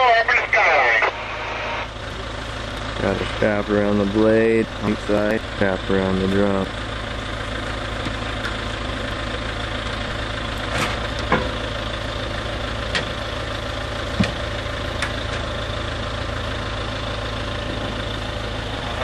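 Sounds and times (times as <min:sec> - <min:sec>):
heavy diesel engine idling: 0:00.0 - 0:19.0.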